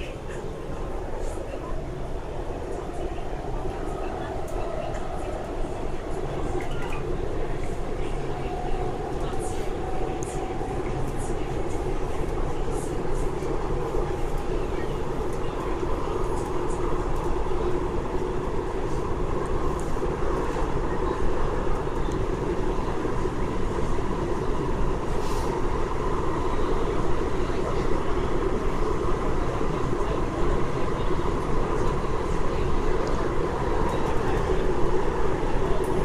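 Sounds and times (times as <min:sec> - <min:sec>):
train rumble and hum: 0:00.0 - 0:36.0.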